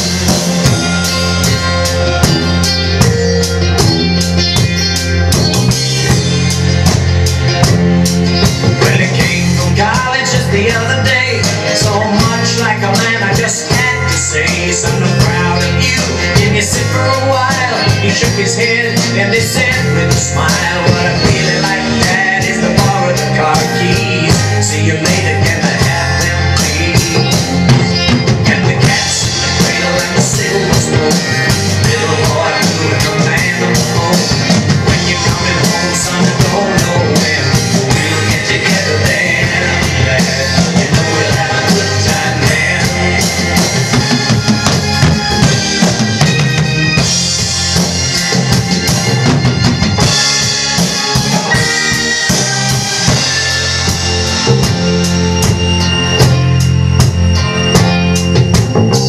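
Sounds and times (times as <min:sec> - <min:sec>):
drum kit playing: 0:00.0 - 0:59.0
rock song with guitar: 0:00.0 - 0:59.0.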